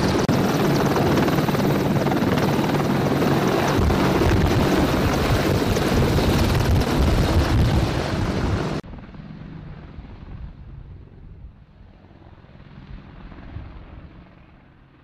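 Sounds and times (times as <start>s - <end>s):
helicopter engines and rotors: 0.0s - 15.0s.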